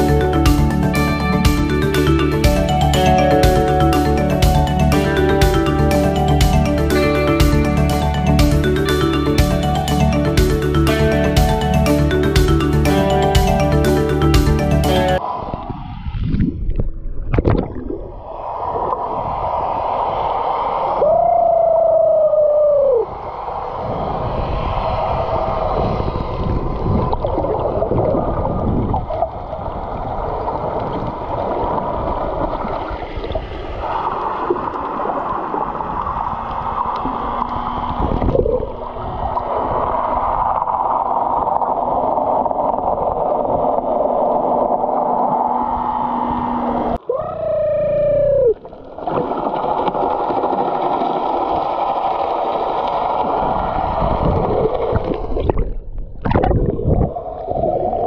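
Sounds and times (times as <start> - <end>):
underwater rushing water: 0.0 - 58.0.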